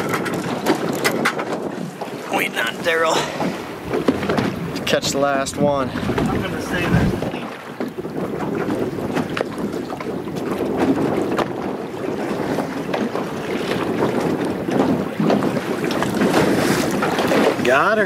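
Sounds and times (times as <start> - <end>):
waves slapping against boat hull: 0.0 - 18.0
wind buffeting microphone: 0.0 - 18.0.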